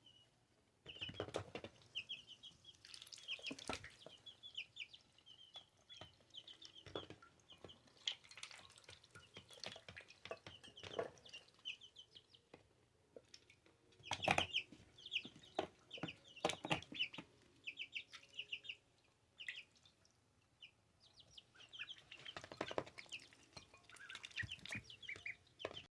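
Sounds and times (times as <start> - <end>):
ducklings peeping: 0.0 - 12.4, 14.0 - 25.9.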